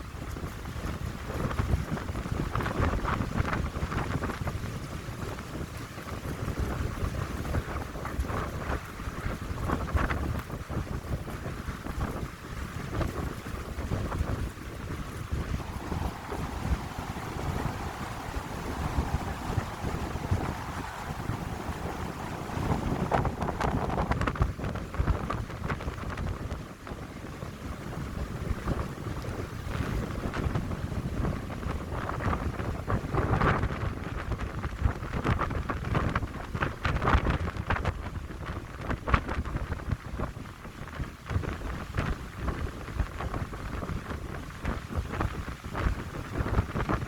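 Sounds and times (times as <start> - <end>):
wind buffeting microphone: 0.0 - 47.0
wind gusting through pine trees: 0.0 - 47.0.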